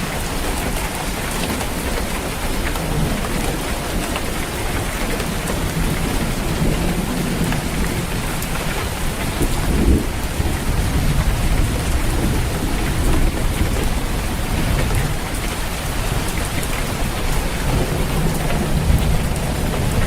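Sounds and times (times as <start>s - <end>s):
rain on a roof: 0.0s - 20.0s
low rolling thunder: 1.8s - 20.0s.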